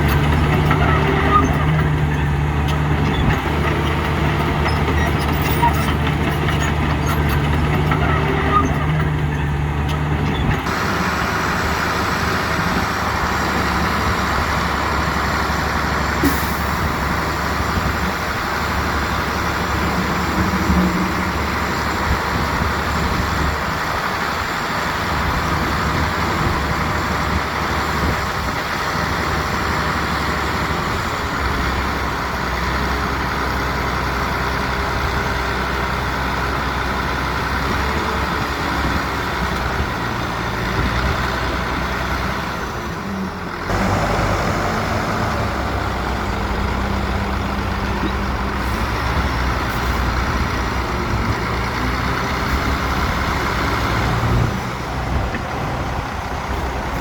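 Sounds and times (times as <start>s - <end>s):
diesel construction machinery running: 0.0s - 57.0s.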